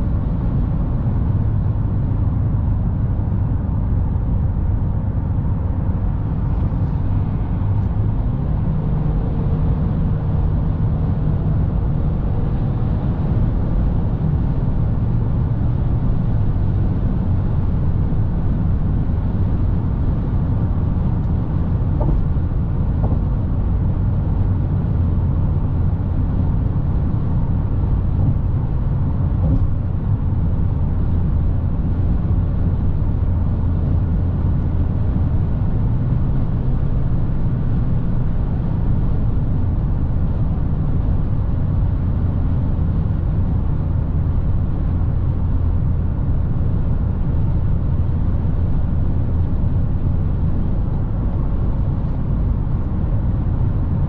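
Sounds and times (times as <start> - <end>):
car engine cruising: 0.0 - 54.0
tyres rumbling on road: 0.0 - 54.0.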